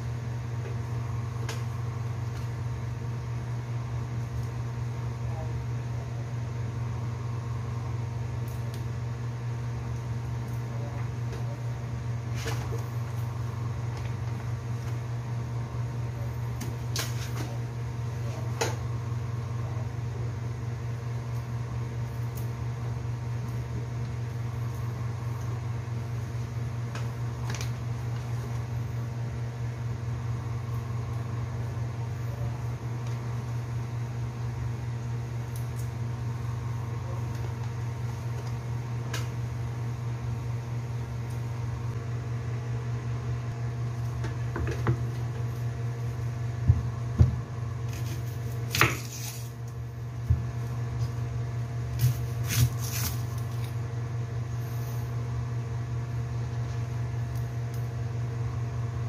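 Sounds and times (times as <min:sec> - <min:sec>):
electrical motor hum: 0:00.0 - 0:59.0.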